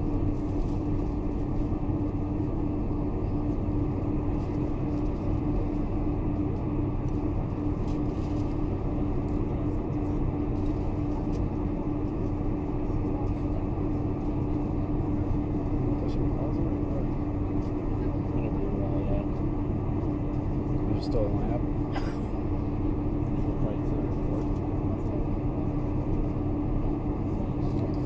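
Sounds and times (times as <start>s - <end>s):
air-conditioning noise: 0.0s - 28.0s
aircraft engine noise: 0.0s - 28.0s
constant low hum: 0.0s - 28.0s.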